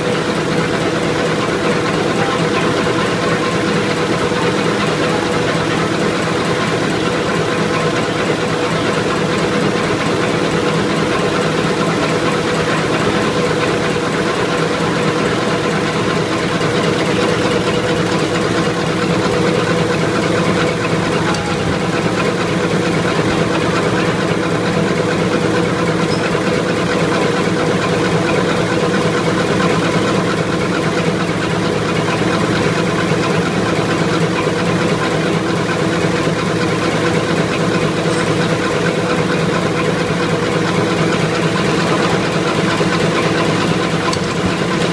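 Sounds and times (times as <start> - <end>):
machine running with hum: 0.0 - 44.9.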